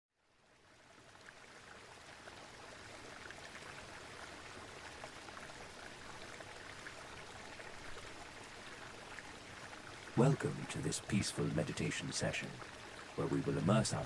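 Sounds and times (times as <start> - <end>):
water flowing: 0.2 - 14.0.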